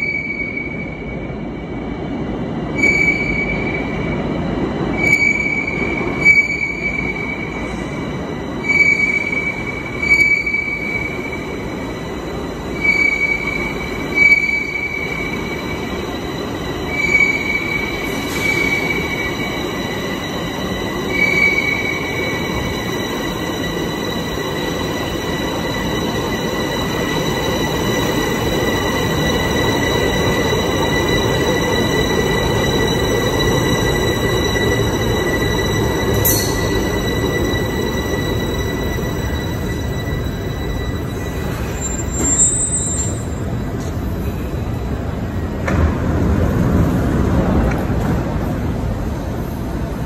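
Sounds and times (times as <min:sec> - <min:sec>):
high brake squeals: 0:00.0 - 0:45.5
metro train rumbling: 0:00.0 - 0:50.0.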